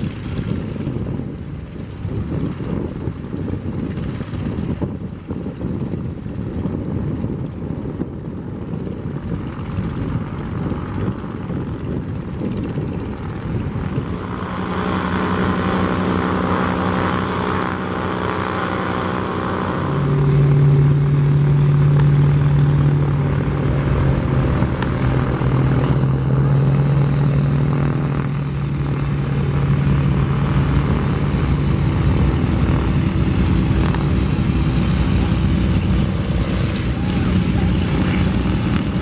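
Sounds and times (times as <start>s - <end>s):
biplane engine drone: 0.0s - 39.0s
other aircraft engine: 0.0s - 39.0s.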